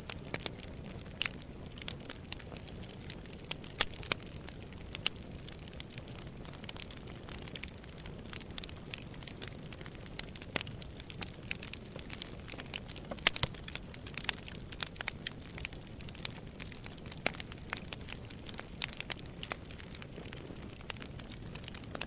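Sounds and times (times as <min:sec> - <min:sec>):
low rumble of flames: 0:00.0 - 0:22.0
wood fire pops and snaps: 0:00.0 - 0:22.0.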